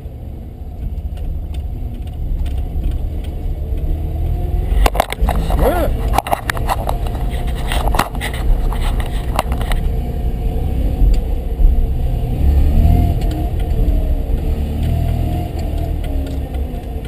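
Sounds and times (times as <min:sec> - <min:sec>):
rotary engine rumble: 0:00.0 - 0:17.0.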